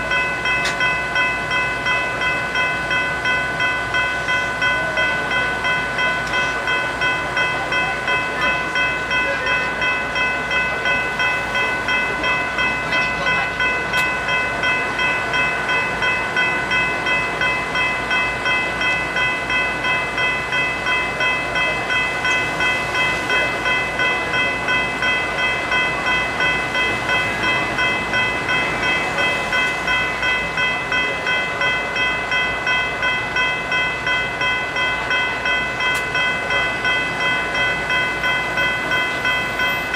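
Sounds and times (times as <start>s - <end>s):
level-crossing bells ringing: 0.0s - 39.9s.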